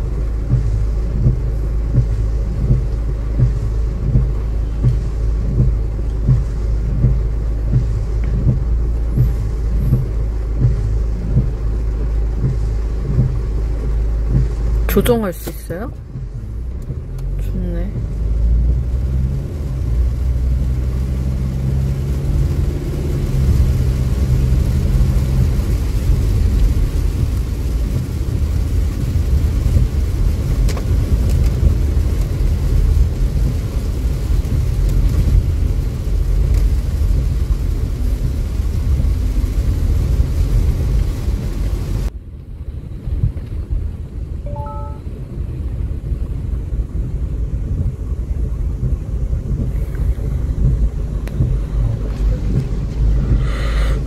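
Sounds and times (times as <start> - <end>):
car engine hum: 0.0 - 54.0
rain beating on car roof: 0.0 - 54.0
tyre and road rumble: 0.0 - 54.0.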